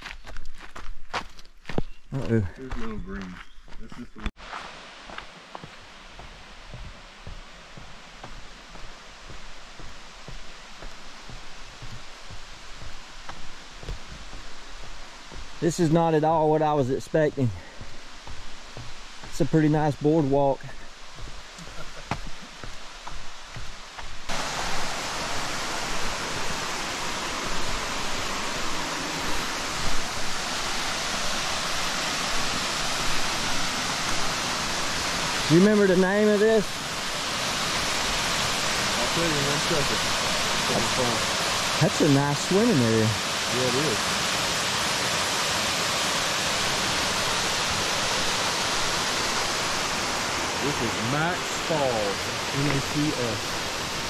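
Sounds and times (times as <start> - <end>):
small waterfall rushing: 4.4 - 54.0.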